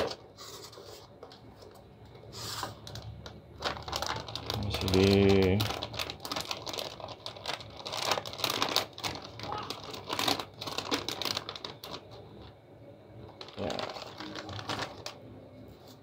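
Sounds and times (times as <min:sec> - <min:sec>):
plastic packaging crinkling: 0:02.4 - 0:16.0.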